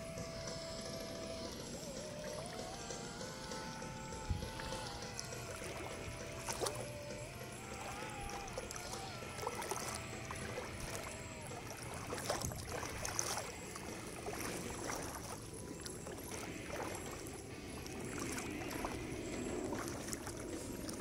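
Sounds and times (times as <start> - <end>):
water sloshing and lapping: 0.0 - 21.0
small splashes: 0.2 - 21.0.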